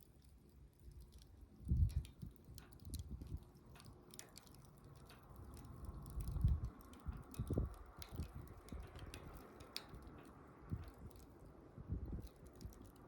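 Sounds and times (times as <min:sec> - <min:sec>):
bonfire crackling and popping: 0:00.0 - 0:13.0
flames rumbling: 0:00.3 - 0:13.0.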